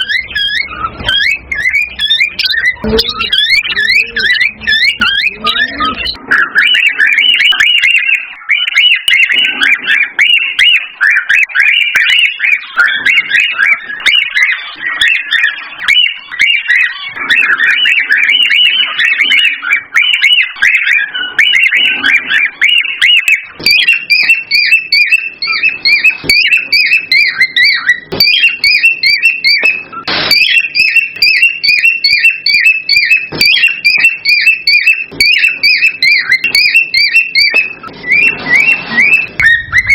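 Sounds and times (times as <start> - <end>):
cockatiels chirping and whistling: 0.0 - 39.9.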